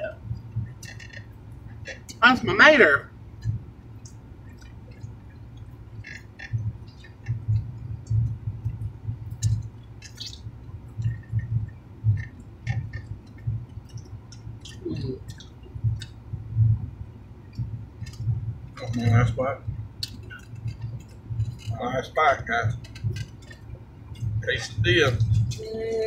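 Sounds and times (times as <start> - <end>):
chewing and mouth smacking: 0.4 - 2.2, 3.4 - 16.3, 17.4 - 21.8, 22.7 - 25.7.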